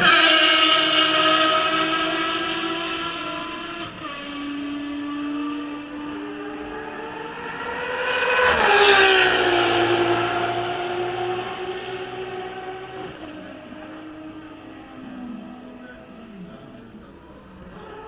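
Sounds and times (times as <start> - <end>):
race car passing at high revs: 0.0 - 18.0.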